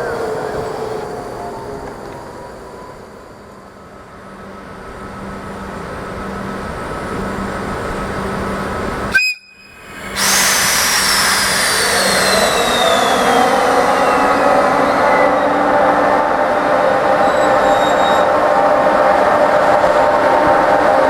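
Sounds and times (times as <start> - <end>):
electric locomotive whine: 0.0 - 21.0.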